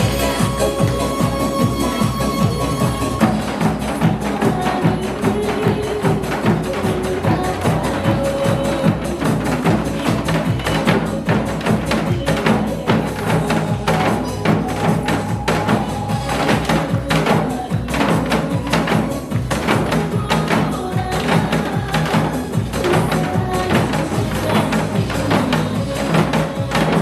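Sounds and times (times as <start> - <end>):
hourglass drums struck rhythmically: 0.0 - 27.0
recorded song accompaniment: 0.0 - 27.0.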